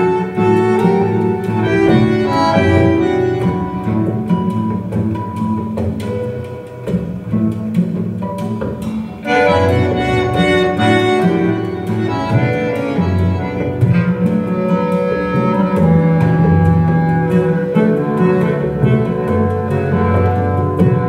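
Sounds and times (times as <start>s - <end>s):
low bass notes: 0.0s - 21.0s.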